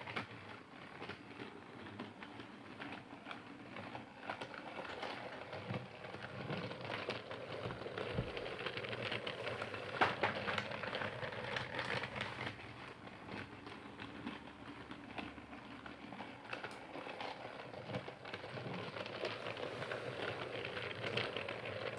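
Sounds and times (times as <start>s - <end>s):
toy train clicking: 0.0s - 21.9s.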